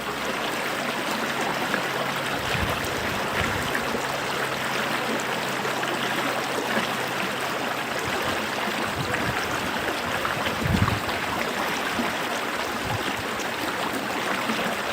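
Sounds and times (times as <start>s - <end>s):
creek water rushing: 0.0s - 14.9s
water gurgle: 0.0s - 14.9s.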